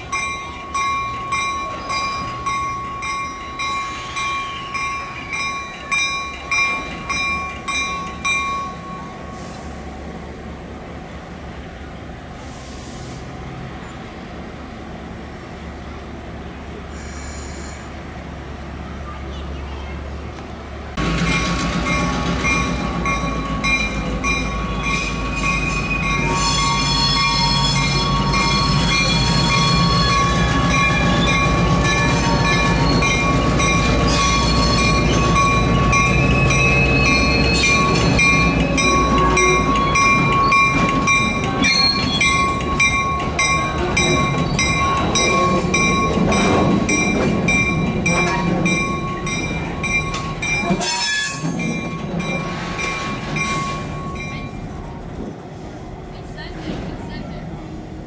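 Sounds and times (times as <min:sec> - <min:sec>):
train running on track: 0:00.0 - 0:58.0.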